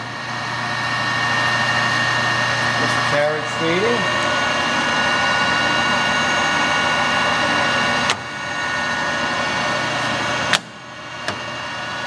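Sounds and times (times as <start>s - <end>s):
lathe gear whine: 0.0s - 12.0s.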